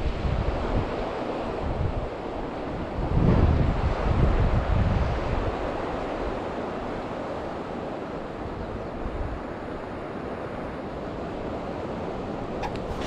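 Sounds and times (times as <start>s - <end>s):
wind buffeting microphone: 0.0s - 6.7s, 8.2s - 13.0s.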